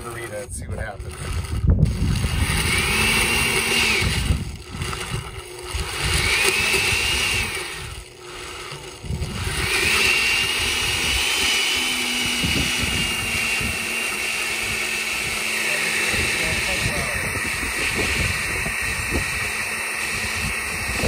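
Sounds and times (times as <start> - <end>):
blender motor whining: 0.0 - 21.0.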